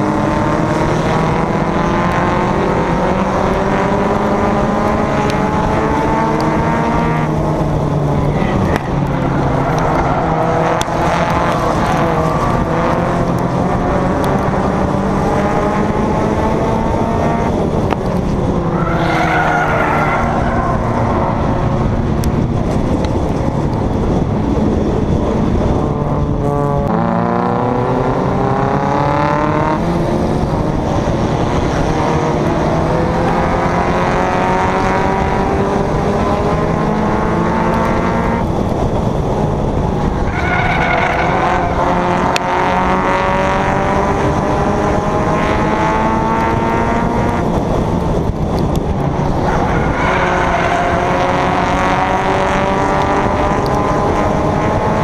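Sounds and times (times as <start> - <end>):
race car engine revving: 0.0 - 55.0
surrounding car engines: 0.0 - 55.0.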